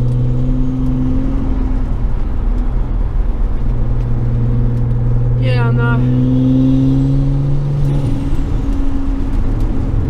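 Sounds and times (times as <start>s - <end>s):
car engine cruising drone: 0.0s - 10.0s
road noise: 0.0s - 10.0s.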